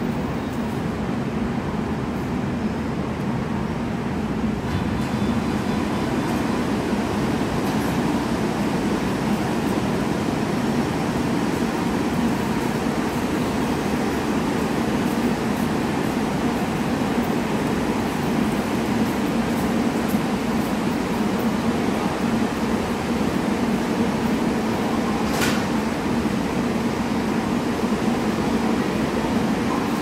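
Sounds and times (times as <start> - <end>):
station ventilation: 0.0 - 30.0
train equipment humming: 0.1 - 30.0.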